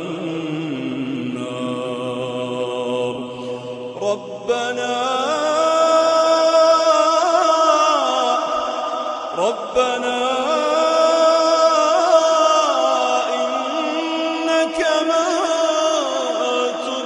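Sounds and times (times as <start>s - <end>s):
person chanting recitation: 0.0s - 17.0s.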